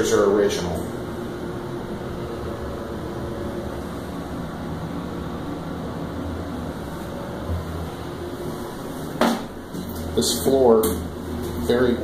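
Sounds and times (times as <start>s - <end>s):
elevator hum and hiss: 0.0s - 12.0s.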